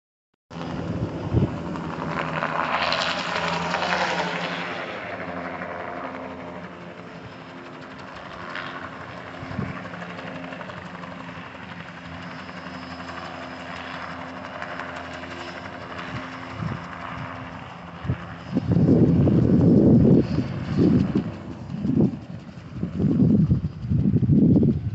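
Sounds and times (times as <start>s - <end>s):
helicopter flying by: 0.5s - 24.9s.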